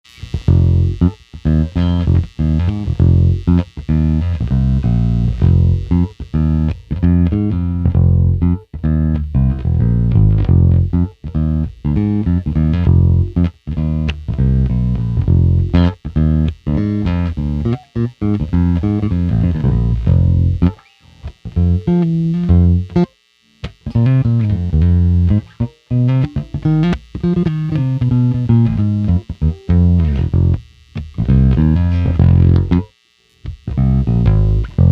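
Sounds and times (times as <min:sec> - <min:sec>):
plucked bass guitar: 0:00.1 - 0:34.9.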